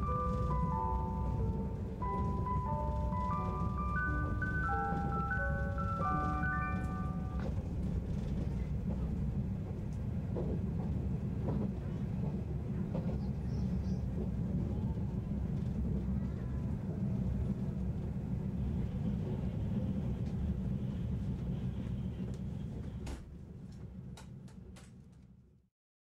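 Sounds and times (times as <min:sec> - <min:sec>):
train wheels rumbling on rails: 0:00.0 - 0:25.3.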